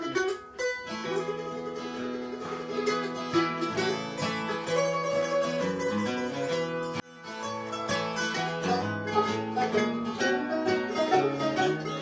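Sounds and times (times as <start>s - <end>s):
acoustic bluegrass string music: 0.0s - 12.0s.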